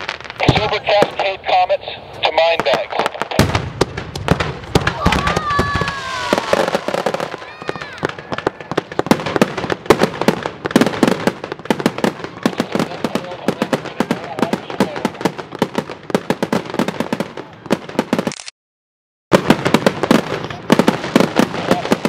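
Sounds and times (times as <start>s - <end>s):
fireworks bangs and crackling: 0.0s - 18.3s, 19.3s - 22.0s.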